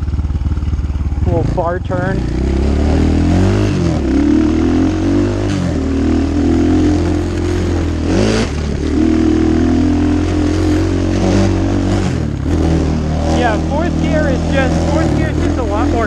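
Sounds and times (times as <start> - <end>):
dirt bike engine running hard: 0.0 - 16.0.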